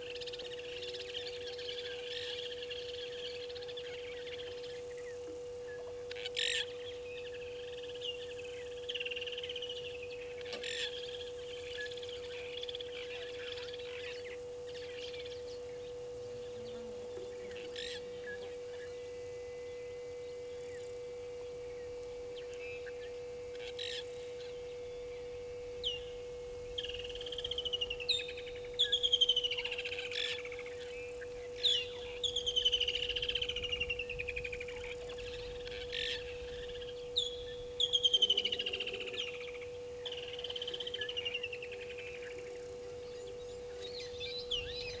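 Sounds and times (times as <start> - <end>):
steady low hum: 0.0 - 45.0
wild birds calling: 0.0 - 45.0.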